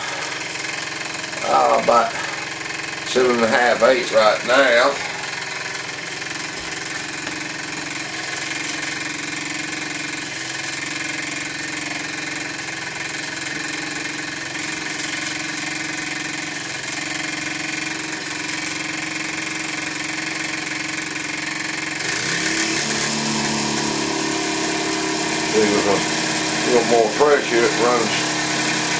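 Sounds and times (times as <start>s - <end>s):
steam engine running: 0.0s - 28.9s.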